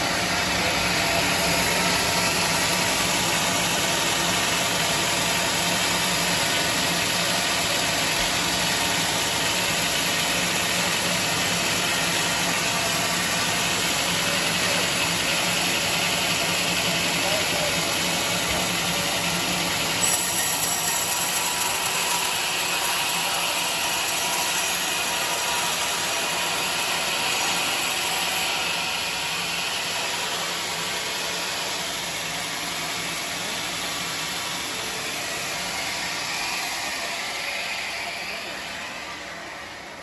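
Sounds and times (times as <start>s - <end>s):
band sawmill sawing log: 0.0s - 40.0s.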